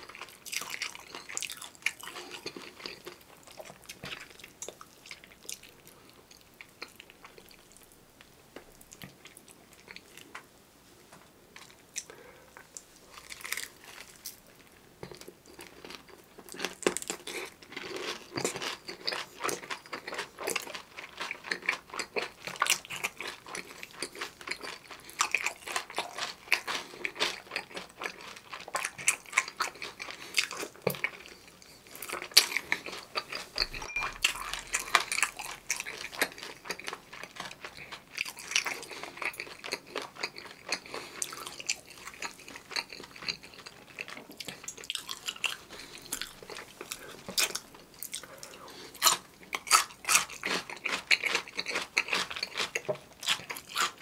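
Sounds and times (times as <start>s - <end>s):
crunchy chewing: 0.0s - 8.0s, 11.6s - 54.0s.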